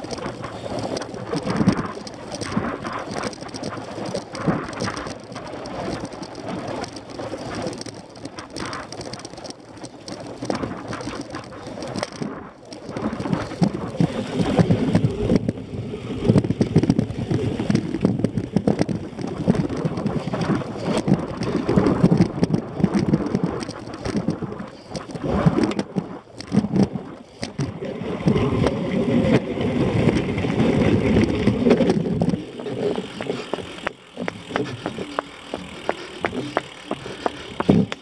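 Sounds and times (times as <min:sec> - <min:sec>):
sharp clicks and knocks: 0:00.0 - 0:15.6, 0:16.2 - 0:38.0
bike rumbling and rattling: 0:00.0 - 0:38.0.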